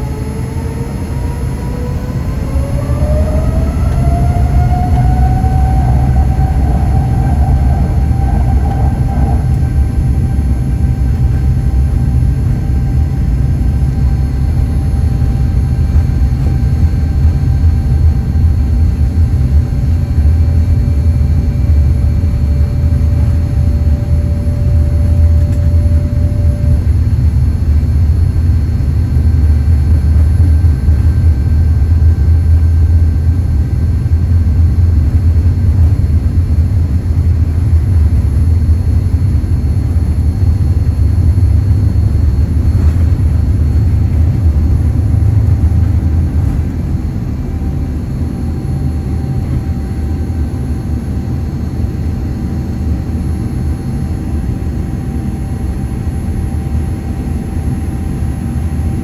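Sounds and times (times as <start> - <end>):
airplane cabin rumble: 0.0 - 59.0
faint steady whine: 0.0 - 59.0.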